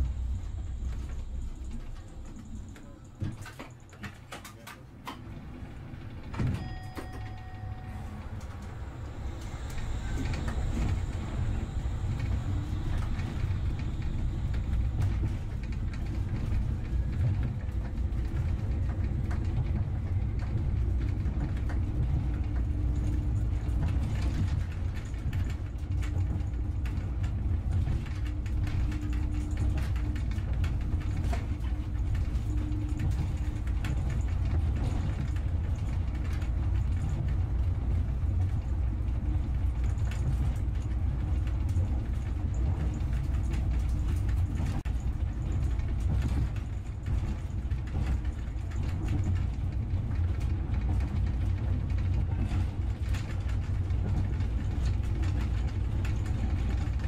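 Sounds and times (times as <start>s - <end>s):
faint rattles and clicks: 0.0s - 7.5s, 8.4s - 57.0s
vehicle engine rumbling: 7.4s - 57.0s.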